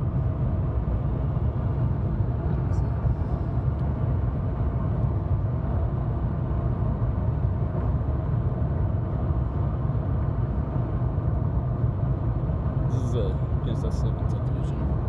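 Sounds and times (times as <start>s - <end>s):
car tyre and road noise: 0.0s - 15.0s.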